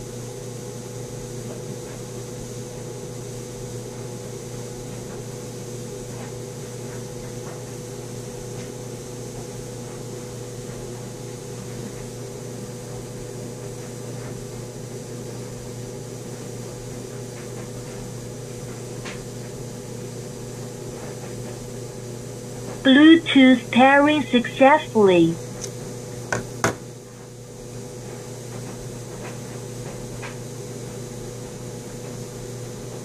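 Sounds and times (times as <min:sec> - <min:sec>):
low mechanical hum with hiss: 0:00.0 - 0:33.0.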